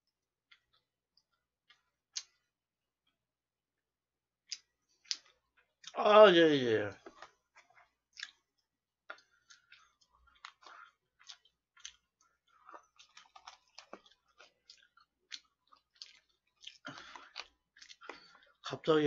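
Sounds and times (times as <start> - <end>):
wet chewing clicks and smacks: 0.4 - 3.2, 4.4 - 6.0, 7.0 - 18.7.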